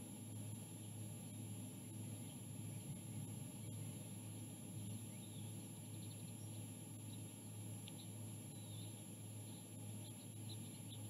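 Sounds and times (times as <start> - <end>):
low electrical hum: 0.0 - 11.0
distant bird chirps: 0.4 - 11.0.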